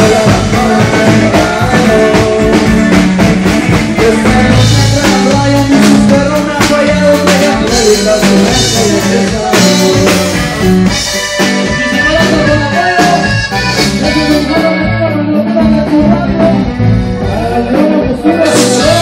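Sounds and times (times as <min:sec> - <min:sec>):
accordion melody: 0:00.0 - 0:19.0
live band playing: 0:00.0 - 0:19.0.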